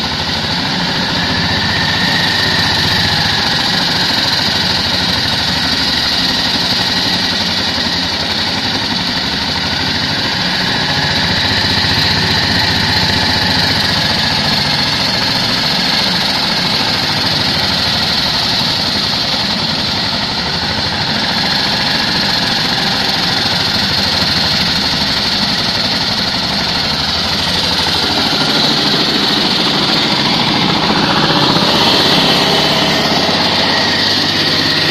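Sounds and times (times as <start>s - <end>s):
blade grinding concrete: 0.0s - 34.9s
concrete cutter engine running: 0.0s - 34.9s.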